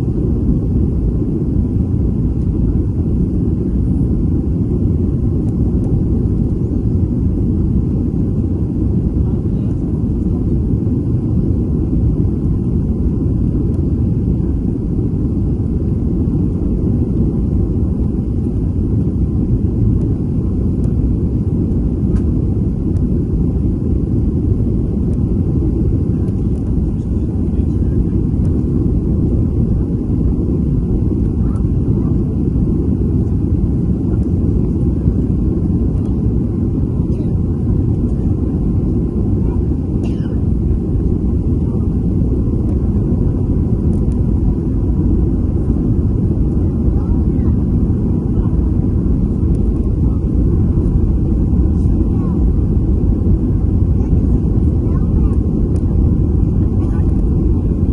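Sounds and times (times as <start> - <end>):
jet airliner rumble: 0.0 - 57.9.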